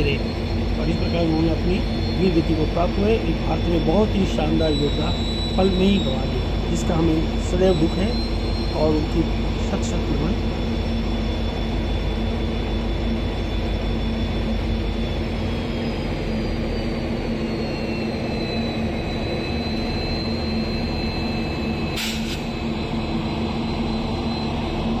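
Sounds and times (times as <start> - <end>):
high whining tones sliding down: 0.0 - 25.0
locomotive diesel engine running: 0.0 - 25.0.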